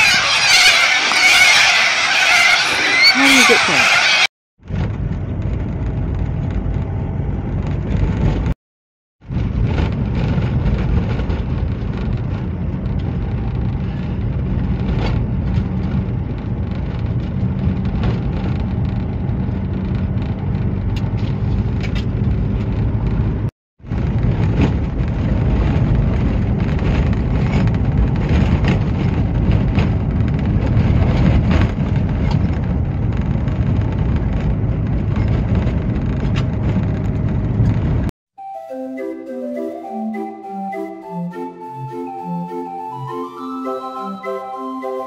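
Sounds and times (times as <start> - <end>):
tyres rumbling on dirt road: 0.0 - 8.6, 9.2 - 38.1.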